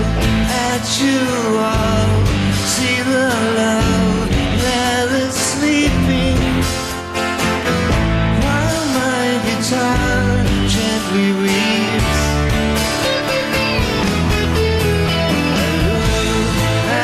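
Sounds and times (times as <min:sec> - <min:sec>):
live rock band playing: 0:00.0 - 0:17.0
wavering vocal or lead guitar: 0:00.0 - 0:17.0.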